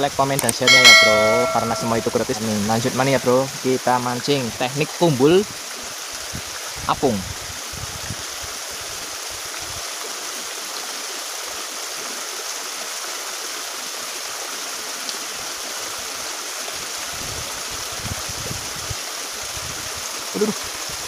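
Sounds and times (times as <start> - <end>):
fast-flowing water rushing: 0.1 - 21.0.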